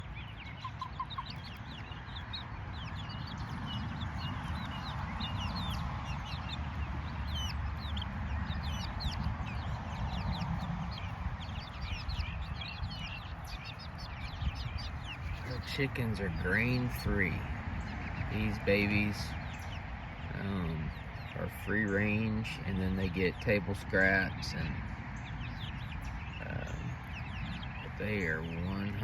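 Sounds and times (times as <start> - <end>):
chicks peeping and clucking: 0.0 - 29.0
steady low rumble: 0.0 - 29.0.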